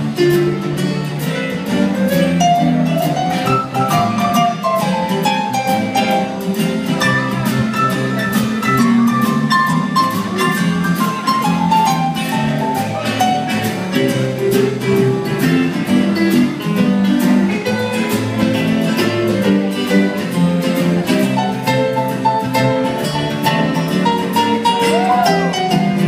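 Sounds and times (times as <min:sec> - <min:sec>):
acoustic guitars strumming: 0:00.0 - 0:26.0
drum kit steady beat: 0:00.0 - 0:26.0
live acoustic band playing: 0:00.0 - 0:26.0.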